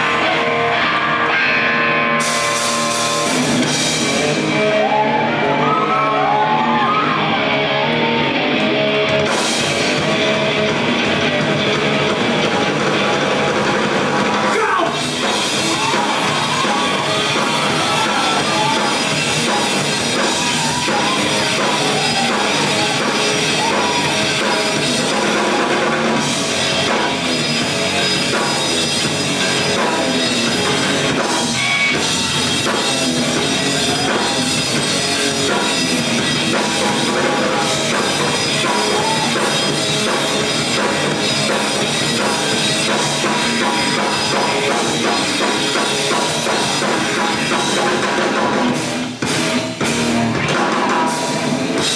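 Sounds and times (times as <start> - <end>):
drum kit: 0.0 - 51.9
rock band playing instrumental: 0.0 - 51.9.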